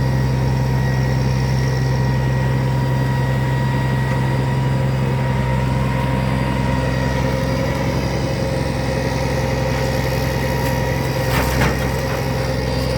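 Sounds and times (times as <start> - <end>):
heavy truck engine idling: 0.0 - 12.9.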